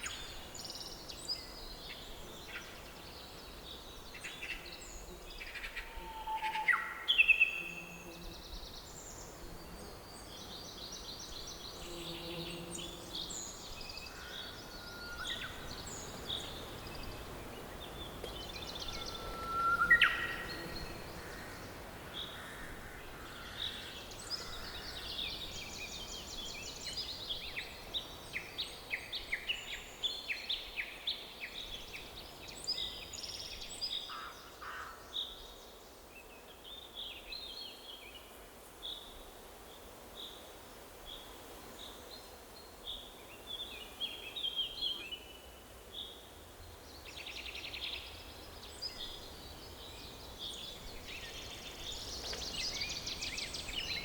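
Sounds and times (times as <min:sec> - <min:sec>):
forest birds singing and calling: 0:00.0 - 0:40.4, 0:41.0 - 0:54.0.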